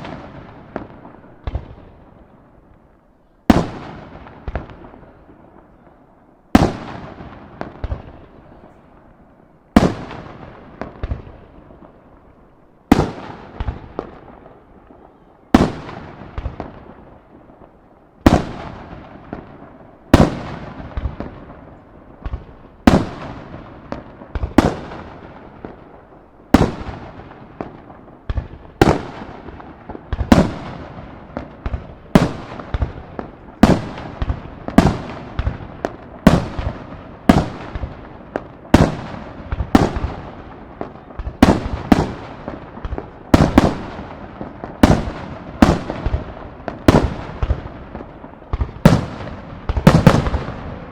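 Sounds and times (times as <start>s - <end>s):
firework shells bursting with echo: 9.7s - 50.9s.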